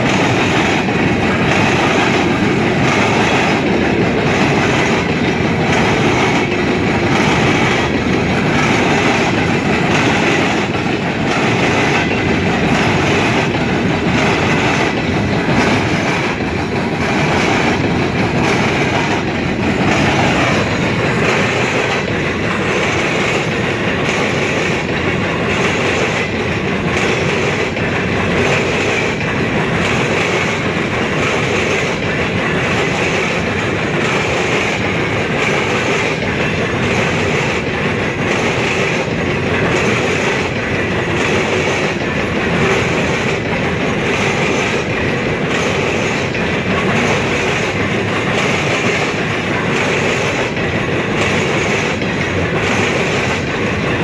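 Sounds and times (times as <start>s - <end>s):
freight train rumbling and rattling: 0.0s - 54.0s
wheels clacking over track: 0.0s - 54.0s.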